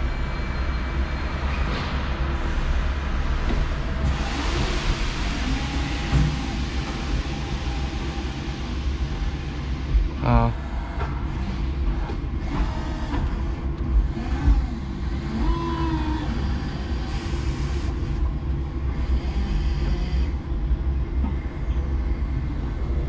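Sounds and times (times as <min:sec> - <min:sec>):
forklift rumbling and humming: 0:00.0 - 0:23.0.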